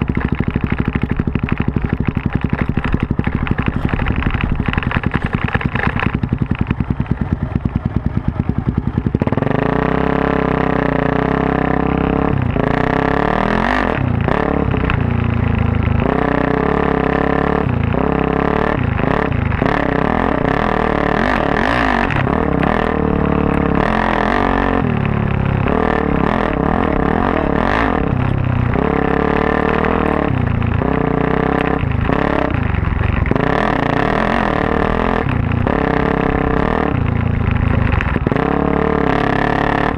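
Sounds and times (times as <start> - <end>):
motorcycle engine idling: 0.0 - 39.8
motorcycle revving while riding: 0.0 - 39.9.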